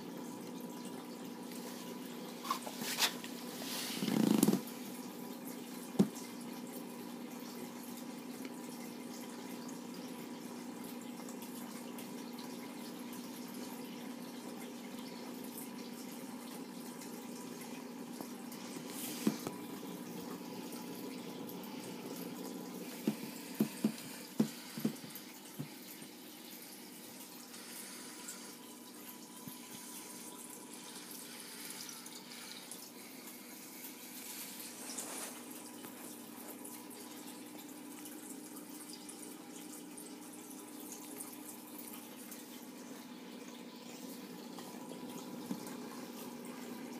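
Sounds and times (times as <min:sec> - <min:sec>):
aquarium filter water splashing: 0:00.0 - 0:46.9.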